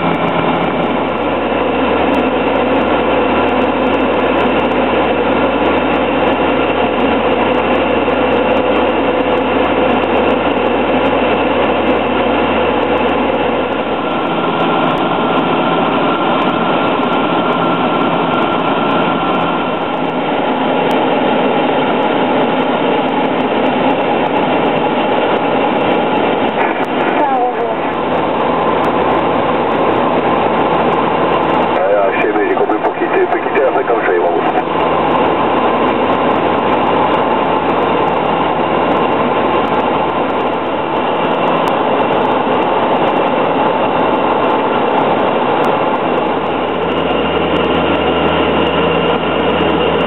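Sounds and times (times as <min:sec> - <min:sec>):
light aircraft engine and propeller: 0:00.0 - 0:50.0.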